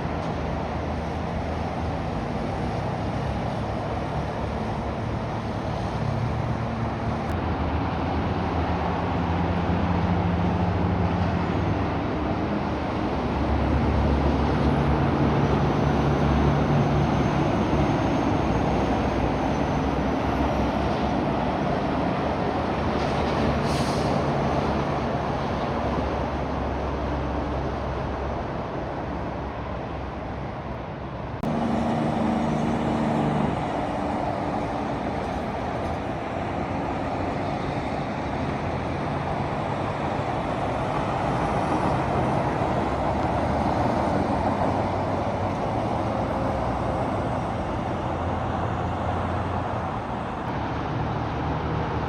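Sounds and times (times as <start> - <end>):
heavy trucks passing: 0.0 - 52.0.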